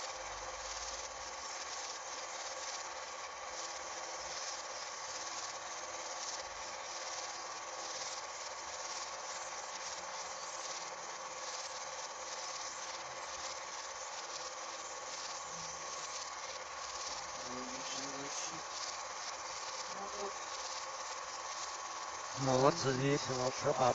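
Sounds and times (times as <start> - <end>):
film projector whirring: 0.0 - 23.9.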